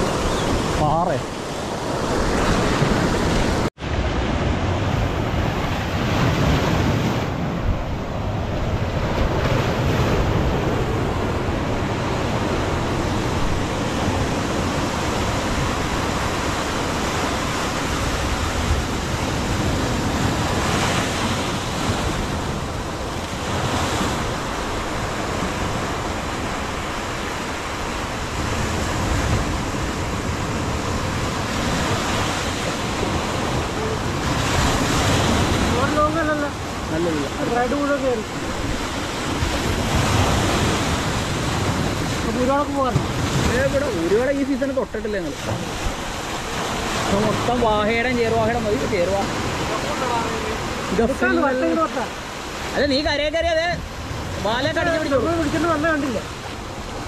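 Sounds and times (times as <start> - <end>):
wind rumbling on microphone: 0.0 - 51.0
sea surf breaking: 0.0 - 57.0.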